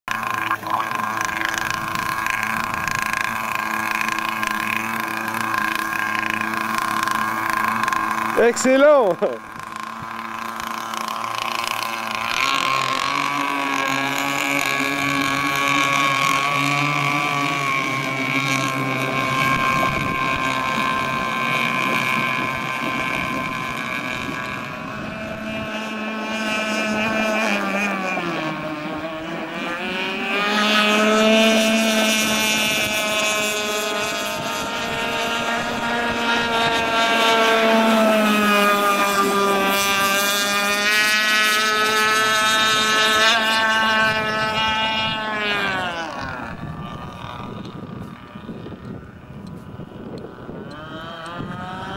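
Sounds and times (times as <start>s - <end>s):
model speedboat engine: 0.1s - 51.9s.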